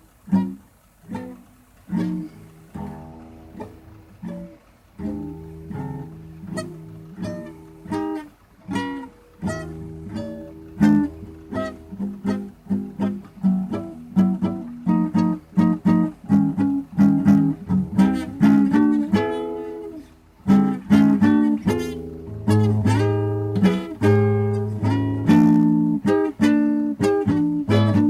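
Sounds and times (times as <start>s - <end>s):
solo acoustic blues guitar: 0.0s - 28.0s.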